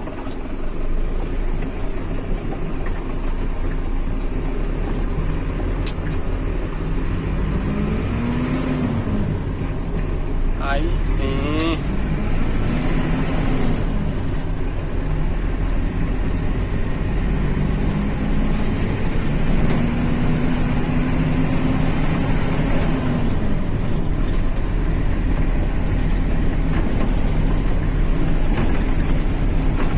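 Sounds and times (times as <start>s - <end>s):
tyres rumbling on dirt road: 0.0s - 29.9s
vehicle engine: 0.0s - 29.9s.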